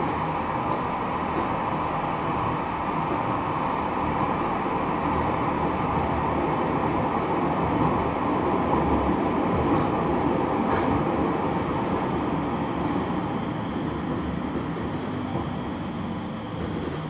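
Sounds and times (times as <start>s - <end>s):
tram wheels rumbling on rails: 0.0s - 17.0s.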